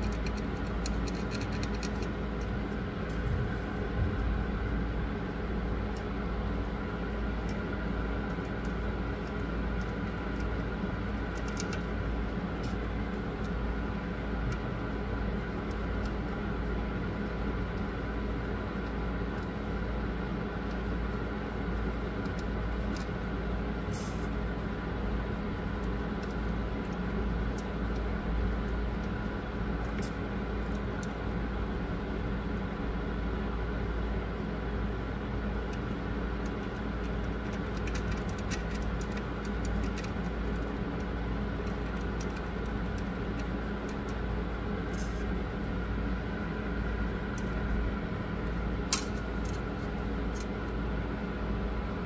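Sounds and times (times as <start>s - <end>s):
low hum and rumble: 0.0s - 52.0s.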